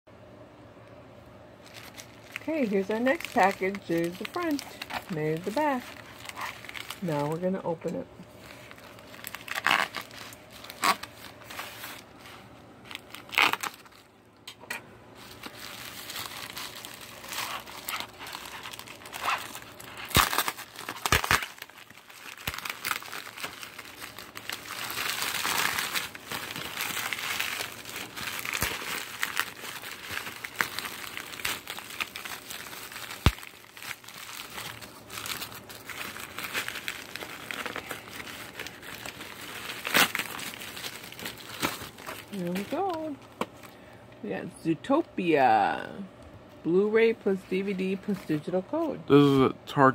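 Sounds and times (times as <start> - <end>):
plastic mailer crinkling: 1.6 - 43.8.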